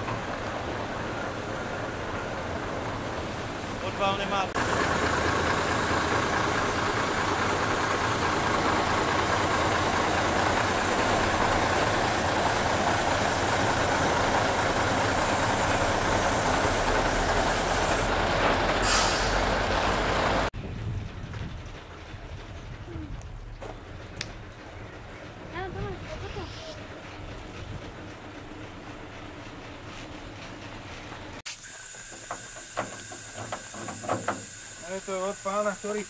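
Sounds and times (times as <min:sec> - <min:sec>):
train rumbling and hissing: 0:00.0 - 0:36.0.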